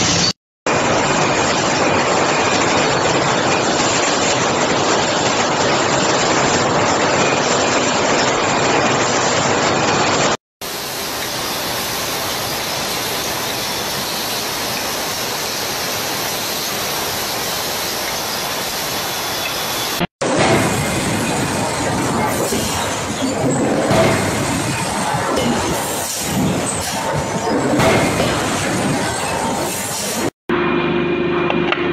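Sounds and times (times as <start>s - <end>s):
bottle forming machine roaring: 0.0s - 30.3s.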